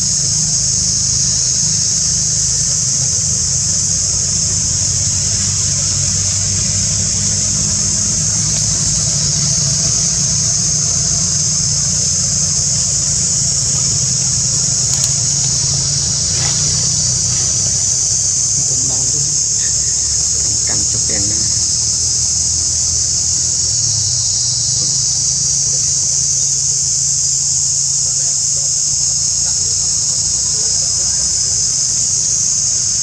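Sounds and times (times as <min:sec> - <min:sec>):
high-pitched insect chorus: 0:00.0 - 0:33.0
low engine rumble: 0:00.0 - 0:33.0.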